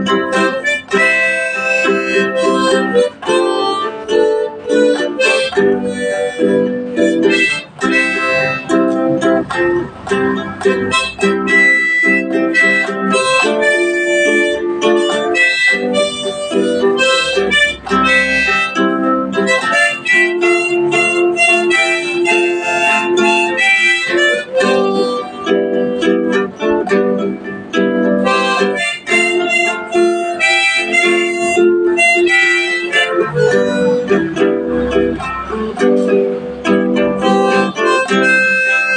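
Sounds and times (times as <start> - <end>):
harmonica melody: 0.0 - 38.9
strummed acoustic guitar: 0.0 - 38.9.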